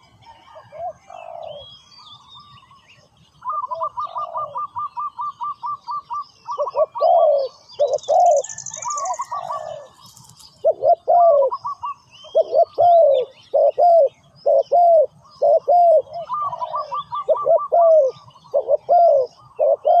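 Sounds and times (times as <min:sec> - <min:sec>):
doves cooing: 0:00.0 - 0:01.8, 0:03.4 - 0:20.0.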